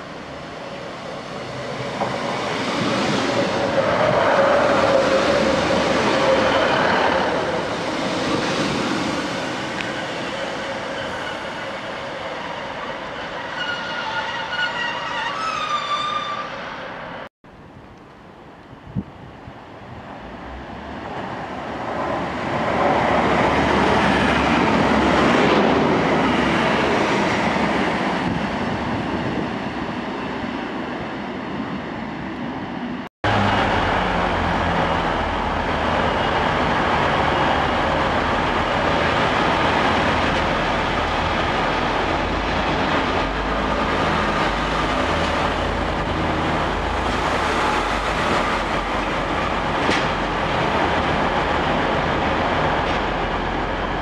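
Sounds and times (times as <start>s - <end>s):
train passing through station: 0.0s - 54.0s.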